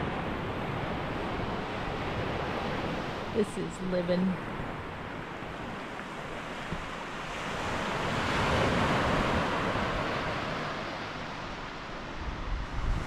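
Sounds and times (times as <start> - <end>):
wave washing on beach: 0.0 - 13.0.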